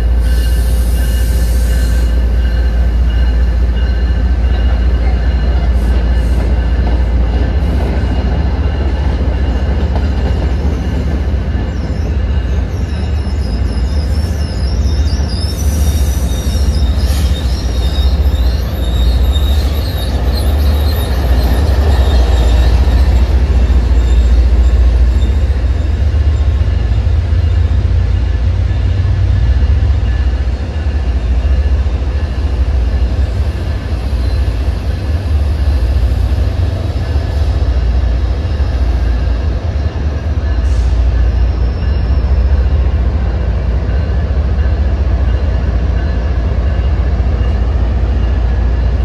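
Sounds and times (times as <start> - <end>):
train rumbling: 0.0 - 49.0
train wheels squealing: 0.0 - 49.0.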